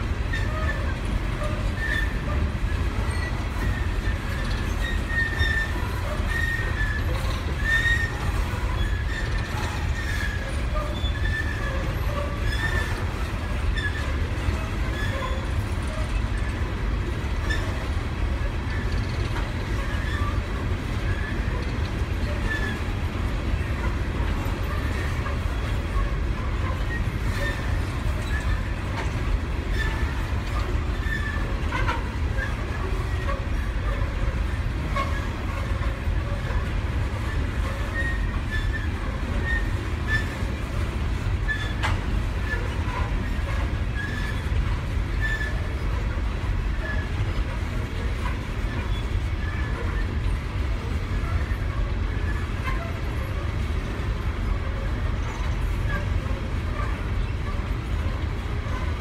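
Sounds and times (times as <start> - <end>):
train wheels rumbling on rail: 0.0 - 59.0
faint wheel squeal: 0.3 - 23.0, 23.6 - 59.0.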